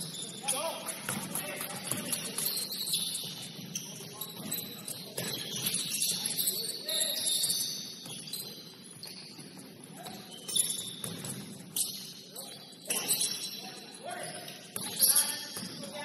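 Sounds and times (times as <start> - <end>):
sneakers squeaking on gym floor: 0.0 - 16.0.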